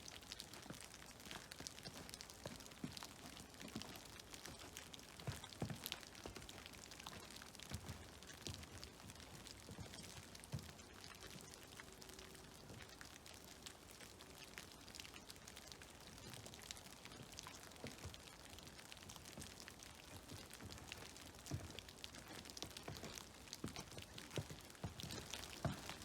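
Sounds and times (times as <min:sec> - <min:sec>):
creek trickling: 0:00.0 - 0:26.0
water dripping from trees: 0:00.0 - 0:26.0.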